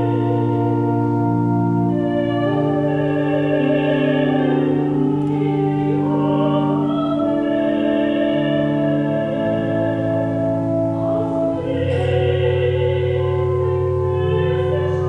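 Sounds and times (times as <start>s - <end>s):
classical singer with vibrato: 0.0s - 15.0s
organ playing chords: 0.0s - 15.0s.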